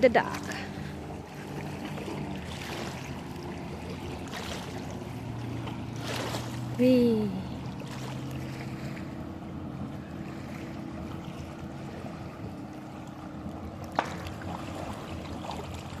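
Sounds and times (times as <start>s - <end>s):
boat motor humming: 0.0s - 16.0s
water: 0.0s - 16.0s.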